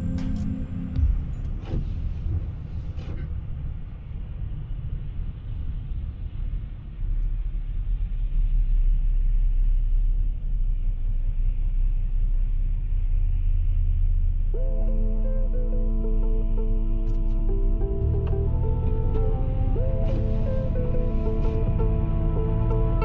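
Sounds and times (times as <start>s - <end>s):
car road rumble from inside: 0.0s - 23.0s.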